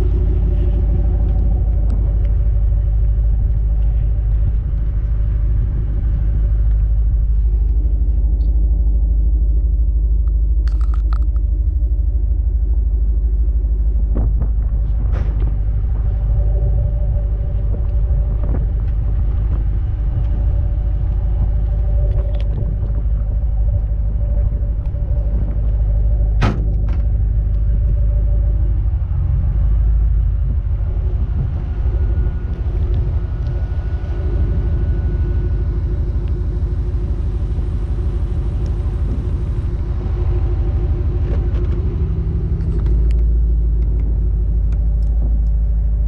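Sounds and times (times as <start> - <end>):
car engine low rumble: 0.0 - 46.0.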